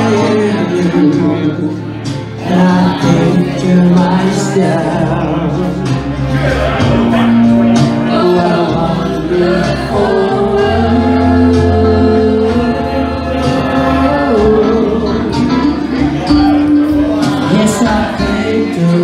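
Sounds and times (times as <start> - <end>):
bass line: 0.0 - 19.0
guitar: 0.0 - 19.0.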